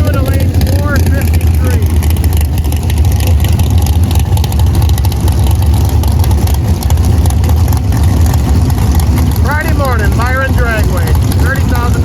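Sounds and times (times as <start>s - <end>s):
drag racing car engine rumble: 0.0s - 12.0s.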